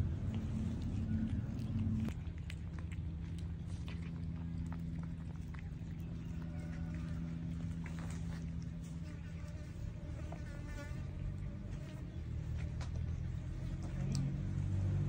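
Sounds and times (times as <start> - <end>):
cats eating from plastic bowls: 0.0 - 15.0.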